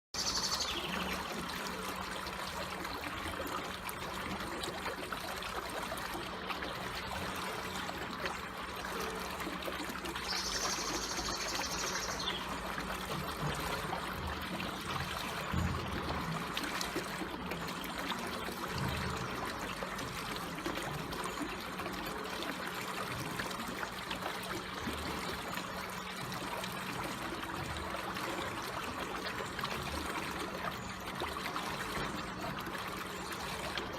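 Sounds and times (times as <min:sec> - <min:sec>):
water trickling: 0:00.2 - 0:33.9.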